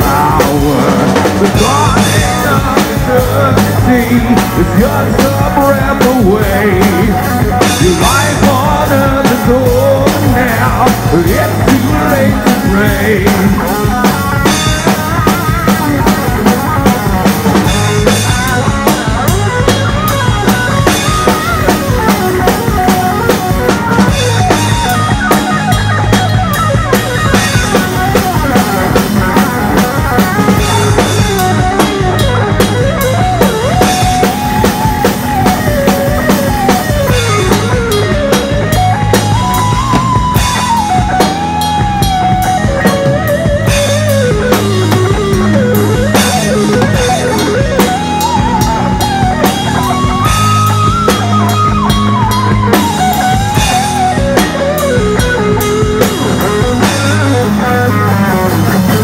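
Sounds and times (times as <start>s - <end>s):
bass: 0.0s - 59.0s
electric guitar lead: 0.0s - 59.0s
pounding drum kit: 0.0s - 59.0s.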